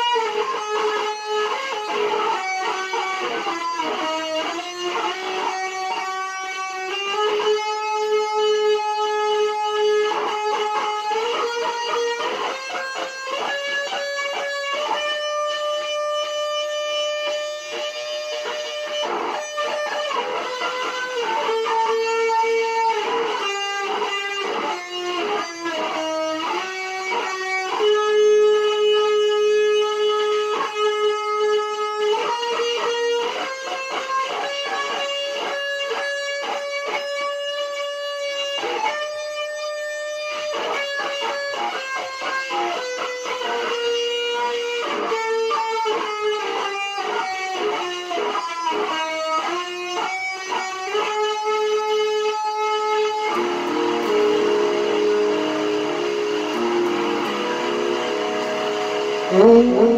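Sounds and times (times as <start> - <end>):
electric guitar lead: 0.0 - 59.9.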